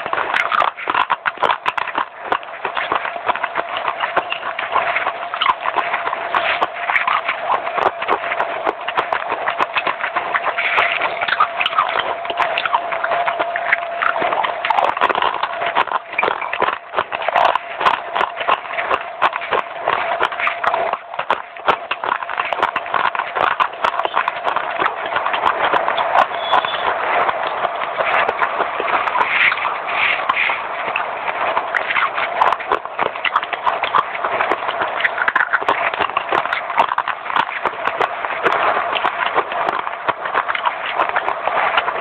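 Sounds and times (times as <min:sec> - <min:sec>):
crunchy chewing: 0:00.0 - 0:42.0.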